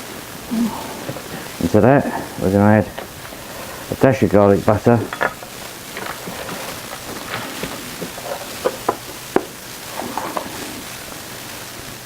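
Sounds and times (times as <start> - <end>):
butter sizzling in a saucepan: 0.0 - 12.0.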